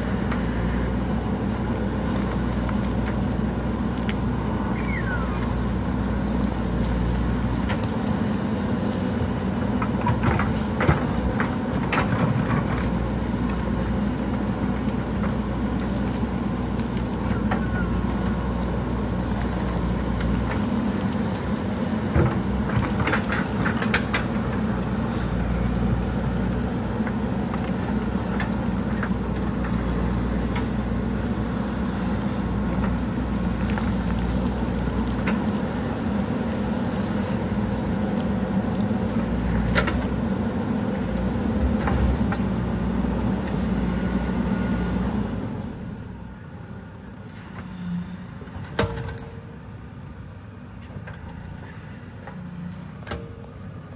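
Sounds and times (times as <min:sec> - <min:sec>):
digger arm scraping soil: 0:00.0 - 0:45.9
diesel engine running: 0:00.0 - 0:53.9.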